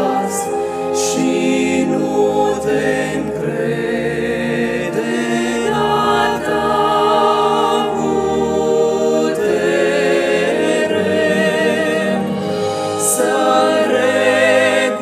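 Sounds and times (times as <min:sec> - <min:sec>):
mixed choir singing a hymn: 0:00.0 - 0:15.0.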